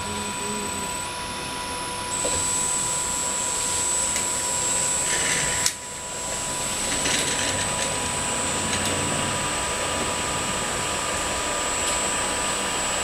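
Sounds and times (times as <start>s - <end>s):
electric motor running: 0.0s - 13.0s
high motor whine: 0.0s - 13.0s.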